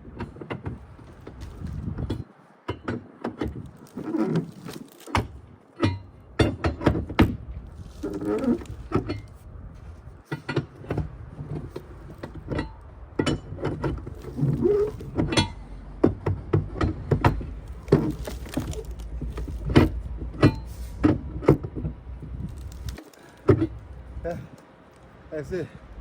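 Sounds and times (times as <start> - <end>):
cargo straps knocking and clanking: 0.0 - 25.6.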